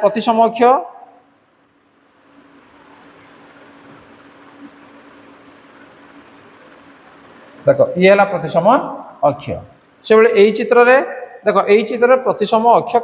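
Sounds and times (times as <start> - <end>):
faint steady hum: 0.0 - 13.0
cricket chirping: 0.8 - 11.4.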